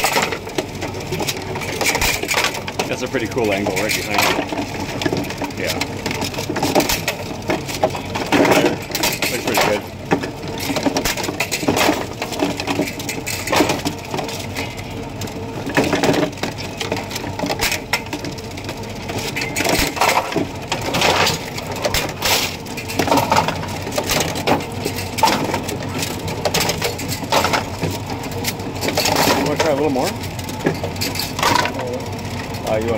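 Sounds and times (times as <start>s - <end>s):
pinsetter mechanical clatter: 0.0s - 32.9s.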